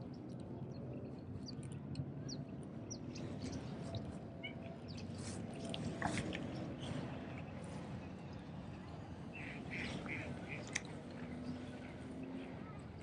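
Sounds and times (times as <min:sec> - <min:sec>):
small birds chirping: 0:00.0 - 0:08.7, 0:09.3 - 0:13.0.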